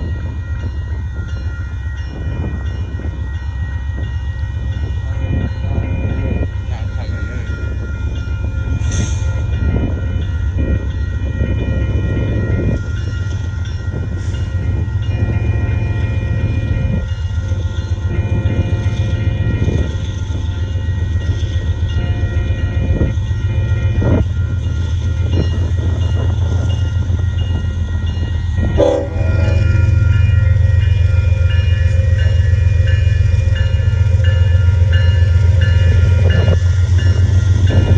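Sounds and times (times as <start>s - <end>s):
diesel locomotive engine rumble: 0.0s - 37.9s
train clanks and knocks: 0.0s - 37.9s.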